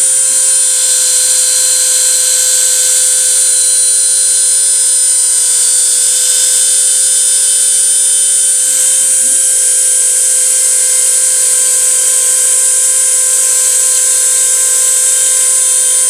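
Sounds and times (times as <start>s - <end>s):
router spindle high-pitched whine: 0.0s - 16.0s.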